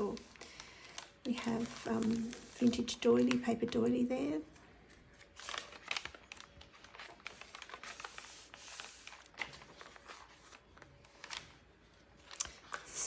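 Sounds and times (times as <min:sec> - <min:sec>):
journal pages turning: 0:00.0 - 0:03.5, 0:04.8 - 0:13.0
faint paper rustling: 0:00.0 - 0:13.0.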